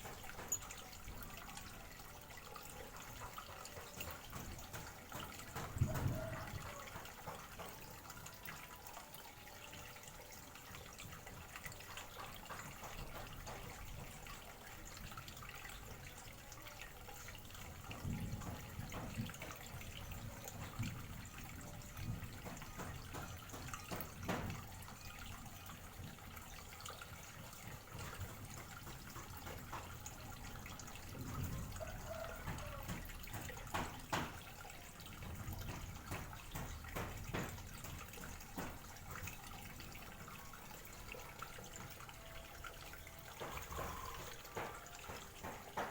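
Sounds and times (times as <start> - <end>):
trickling water: 0.0 - 45.9
water drips: 0.0 - 45.9.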